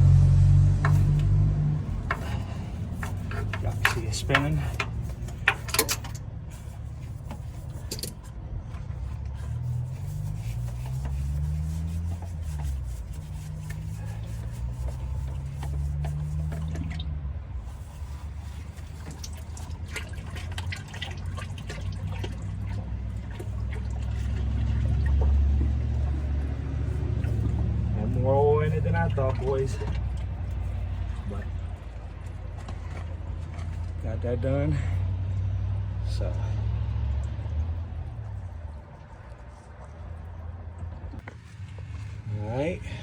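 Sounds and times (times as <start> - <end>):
oil pouring and dripping: 0.0 - 43.0.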